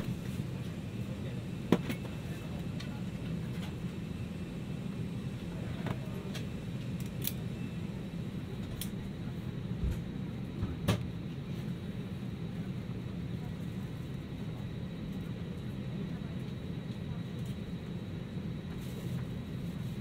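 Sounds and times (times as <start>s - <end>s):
cabin air-conditioning hum: 0.0s - 20.0s.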